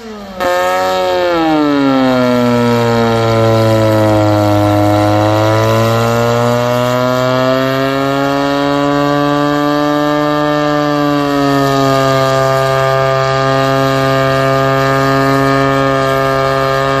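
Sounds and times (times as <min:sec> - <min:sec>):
rotary engine at high revs: 0:00.0 - 0:17.0.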